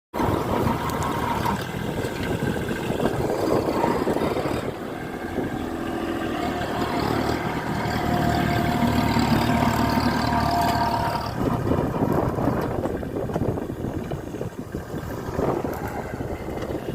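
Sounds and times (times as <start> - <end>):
vehicle engine running: 0.2 - 16.9
whining tones: 0.2 - 16.9.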